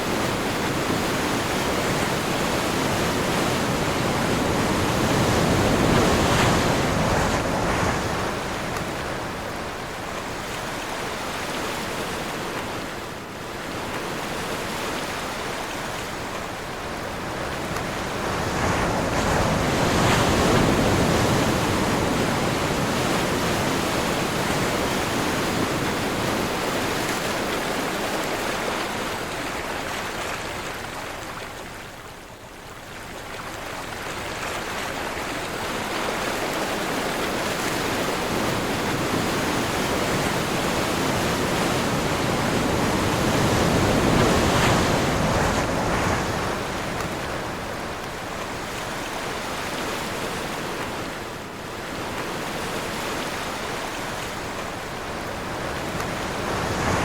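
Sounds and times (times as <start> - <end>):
ocean surf breaking: 0.0 - 29.4, 35.4 - 57.0
wind: 0.0 - 57.0.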